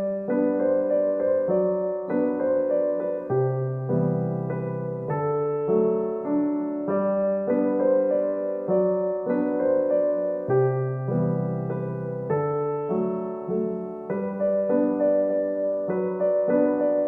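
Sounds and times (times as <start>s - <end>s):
soft electric piano melody: 0.0s - 17.0s.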